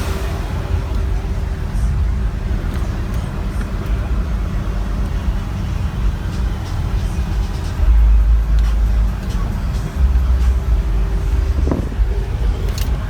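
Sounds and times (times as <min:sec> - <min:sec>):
heavy bass music in car: 0:00.0 - 0:13.0.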